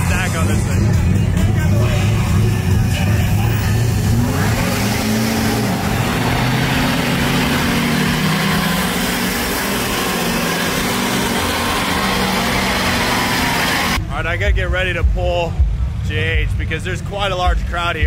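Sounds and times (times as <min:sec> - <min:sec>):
diesel truck engine revving: 0:00.0 - 0:18.0.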